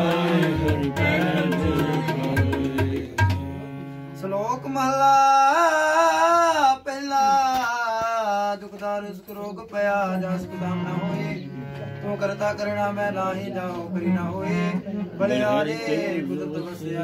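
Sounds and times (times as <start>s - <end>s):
harmonium chords: 0.0s - 7.1s, 8.3s - 17.0s
man singing devotional melody: 0.0s - 17.0s.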